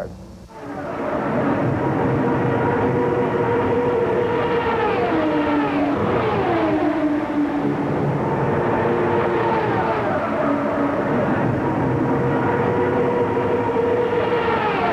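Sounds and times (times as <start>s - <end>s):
race cars passing at speed: 0.5s - 14.9s.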